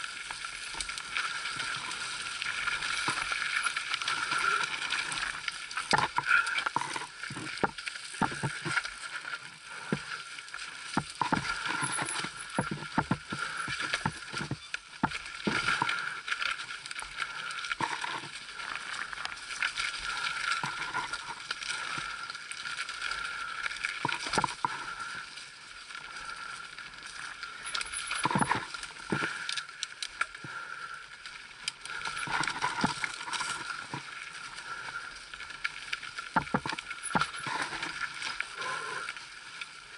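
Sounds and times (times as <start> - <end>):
bike chain and frame clatter: 0.0 - 25.2, 26.0 - 31.0, 31.6 - 39.7.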